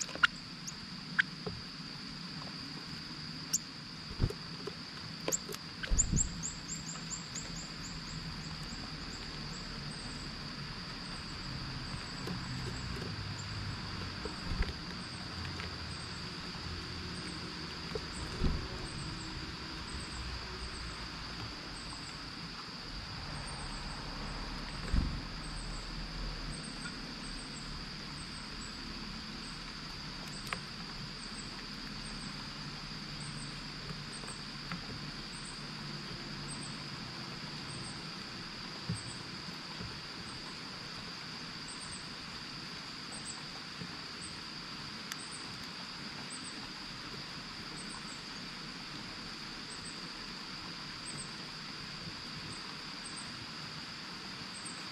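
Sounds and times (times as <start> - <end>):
insects chirping: 0.0 - 54.9
light rain hiss: 0.0 - 54.9.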